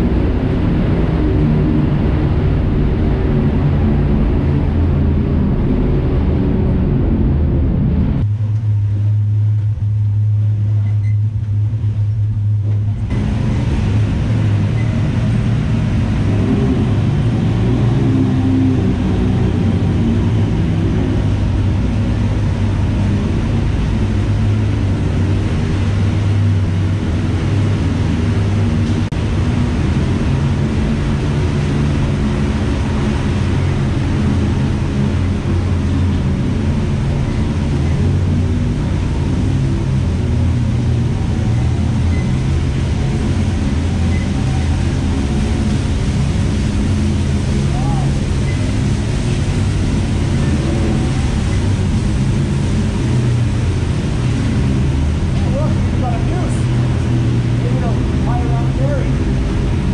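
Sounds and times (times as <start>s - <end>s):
vehicle engine drone: 0.0s - 59.9s.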